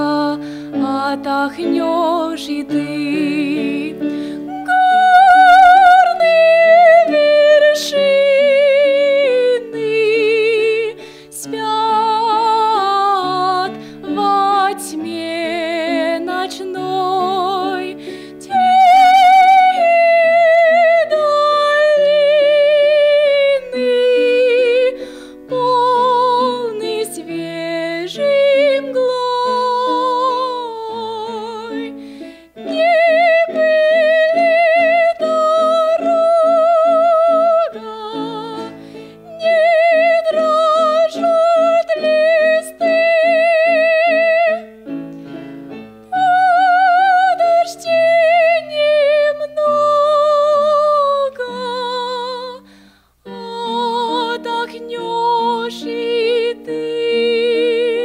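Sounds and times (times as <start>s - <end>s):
woman singing with vibrato: 0.0s - 44.8s, 46.1s - 58.0s
piano accompaniment: 0.0s - 58.0s.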